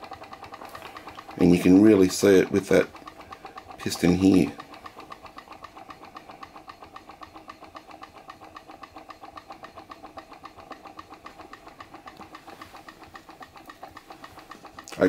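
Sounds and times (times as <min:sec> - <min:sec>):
engine mechanism clicking: 0:00.0 - 0:15.0.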